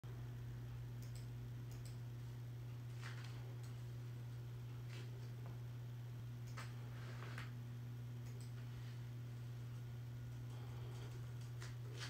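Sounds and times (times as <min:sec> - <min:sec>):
low hum: 0:00.1 - 0:12.0.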